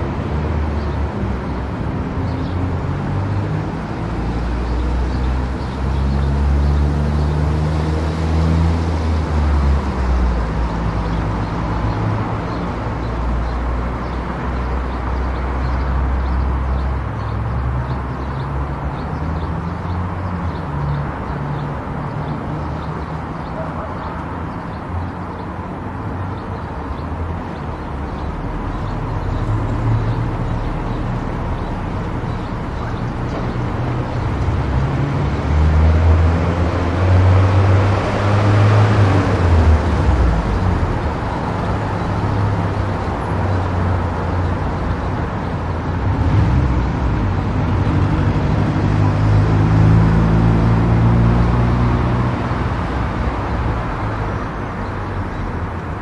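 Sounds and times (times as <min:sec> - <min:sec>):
road and tyre noise: 0:00.0 - 0:56.0.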